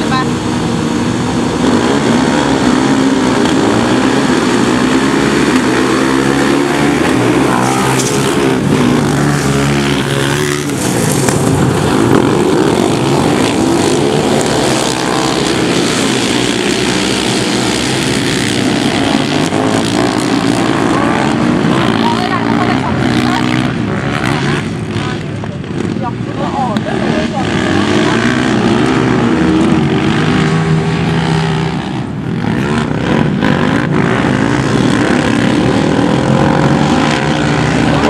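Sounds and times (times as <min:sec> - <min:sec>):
kart engines revving: 0:00.0 - 0:38.0.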